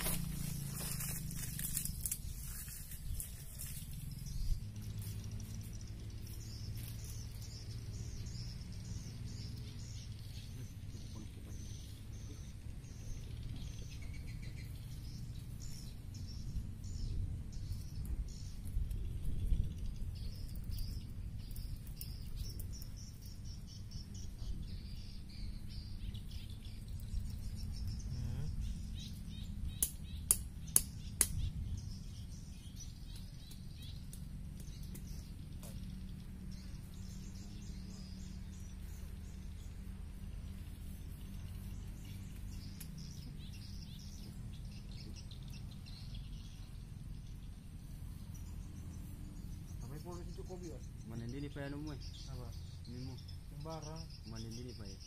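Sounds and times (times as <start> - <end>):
steady low rumble: 0.0 - 54.2
small birds chirping: 0.0 - 55.0.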